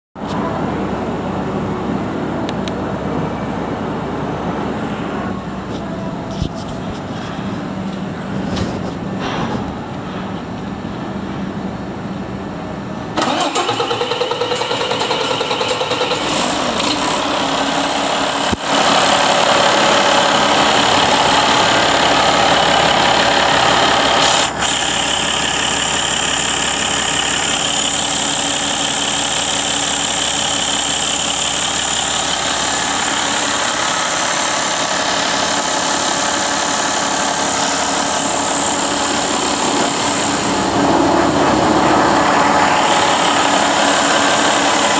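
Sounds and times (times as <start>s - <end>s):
diesel engine starting and running: 0.2s - 44.9s.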